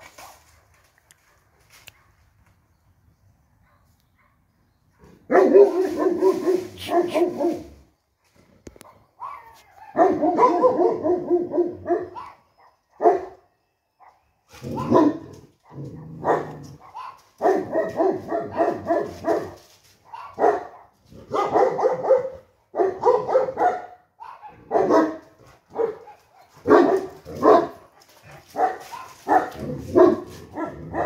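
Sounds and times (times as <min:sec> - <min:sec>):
dogs barking: 0:03.6 - 0:07.8, 0:08.8 - 0:13.4, 0:14.0 - 0:31.0.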